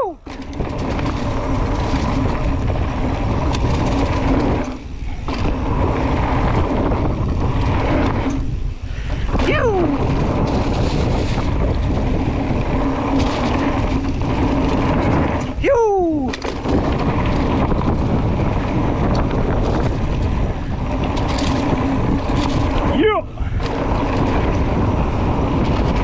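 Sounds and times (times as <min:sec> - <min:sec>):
bike tyres rolling over dirt: 0:00.0 - 0:26.0
wind on microphone: 0:00.0 - 0:26.0.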